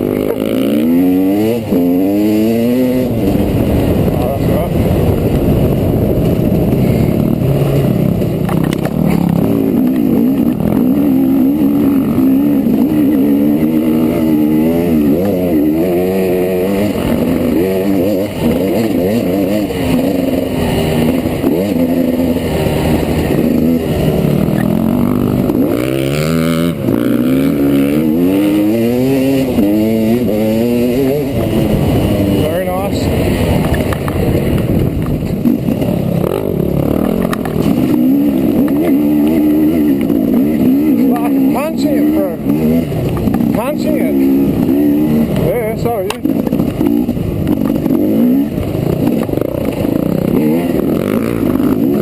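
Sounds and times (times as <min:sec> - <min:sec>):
steady rush of noise: 0:00.0 - 0:52.0
trail bike engine revving: 0:00.0 - 0:52.0.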